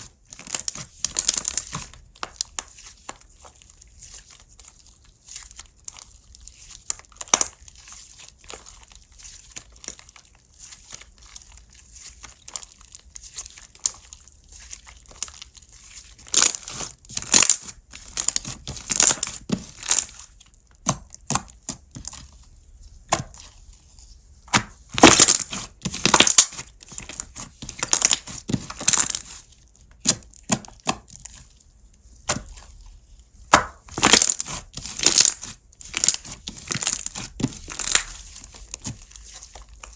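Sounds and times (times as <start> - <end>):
slime squeezed crackling and snapping: 0.0 - 22.3, 24.5 - 31.7, 33.5 - 39.9.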